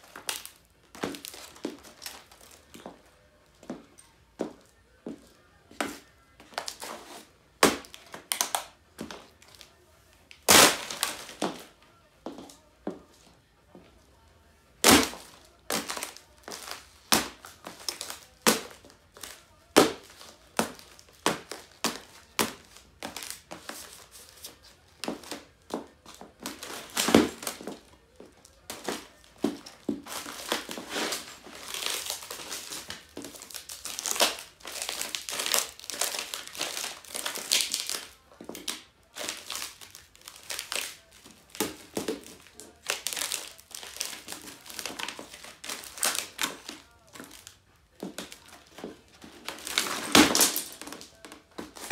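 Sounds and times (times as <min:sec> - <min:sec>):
laptop cracking under stamping shoes: 0:00.0 - 0:03.0, 0:04.4 - 0:13.2, 0:14.8 - 0:51.9.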